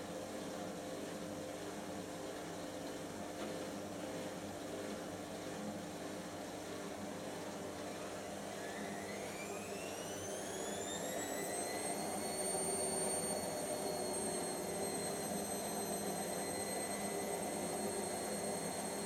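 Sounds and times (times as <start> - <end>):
washing machine motor whine: 0.4 - 19.0
washing machine drum whirring: 3.0 - 19.0.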